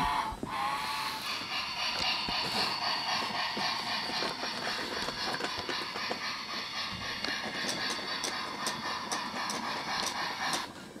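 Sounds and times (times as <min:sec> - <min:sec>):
toy train clicks on wooden track: 0:00.0 - 0:10.8
toy train motor whirring: 0:00.0 - 0:10.8.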